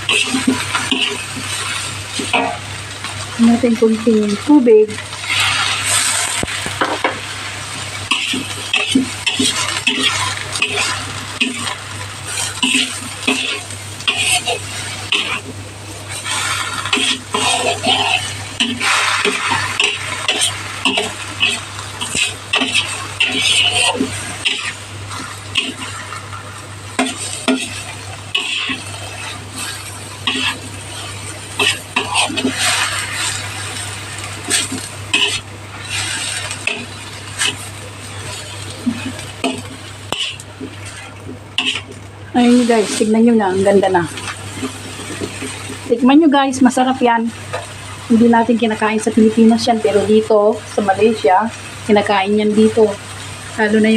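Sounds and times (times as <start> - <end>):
steady sizzling: 0.0 - 53.9
utensil scraping and stirring leaves: 0.0 - 53.9
water hissing in hot pan: 0.0 - 53.9.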